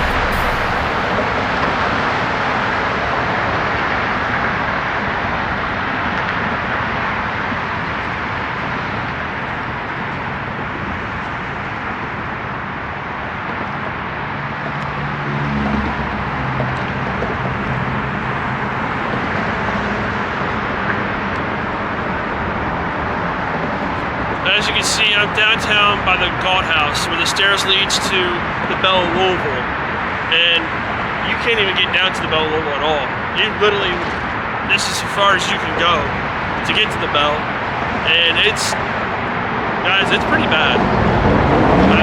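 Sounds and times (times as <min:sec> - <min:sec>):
road traffic roar: 0:00.0 - 0:42.0.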